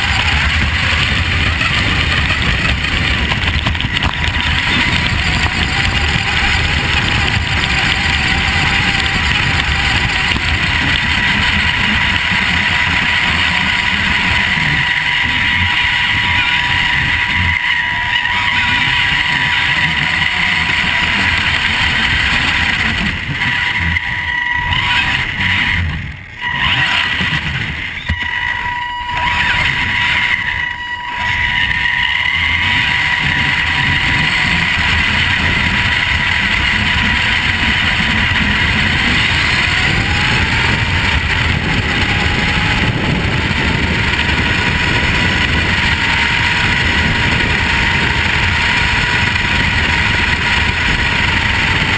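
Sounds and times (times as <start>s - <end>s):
electric motor whine: 0.0s - 51.9s.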